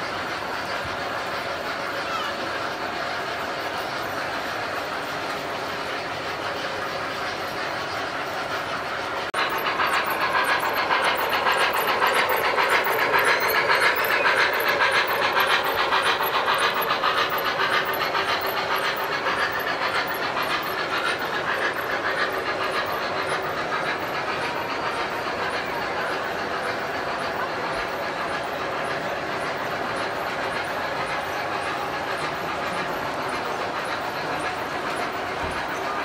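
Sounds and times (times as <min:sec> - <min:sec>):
model train rolling rumble: 0:00.0 - 0:36.0
wheels clicking over rail joints: 0:00.0 - 0:36.0.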